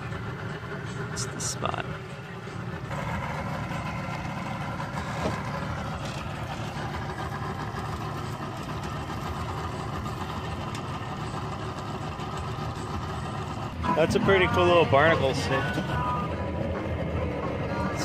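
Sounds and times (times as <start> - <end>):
outboard motors idling: 0.0 - 18.0.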